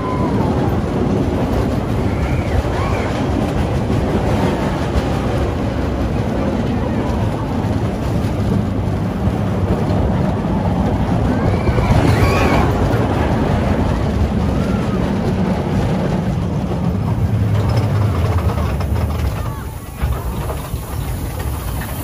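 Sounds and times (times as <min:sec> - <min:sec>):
roller coaster rumbling on track: 0:00.0 - 0:22.0.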